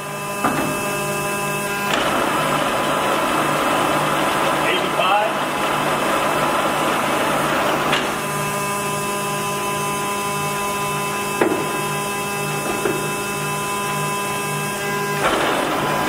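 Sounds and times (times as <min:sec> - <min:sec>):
lathe gearing whine: 0:00.0 - 0:16.0.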